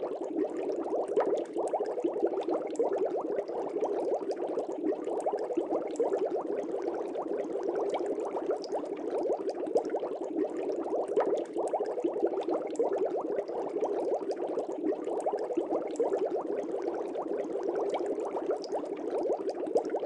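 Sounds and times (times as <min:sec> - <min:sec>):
aquarium water bubbling: 0:00.0 - 0:20.0.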